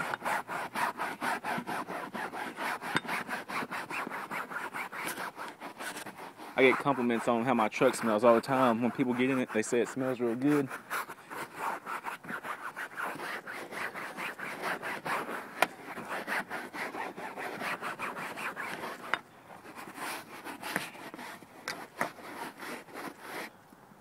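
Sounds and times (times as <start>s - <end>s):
cloth seat being scrubbed: 0.0s - 23.5s.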